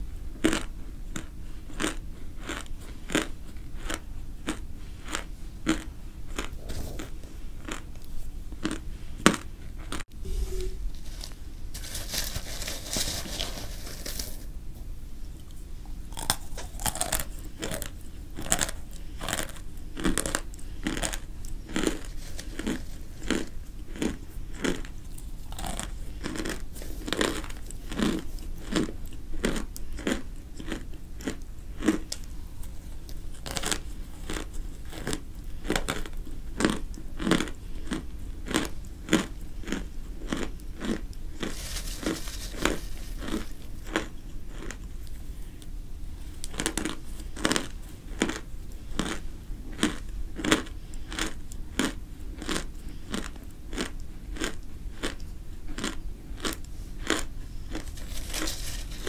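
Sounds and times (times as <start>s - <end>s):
dry crunchy chewing: 0.4s - 10.1s, 15.4s - 59.0s.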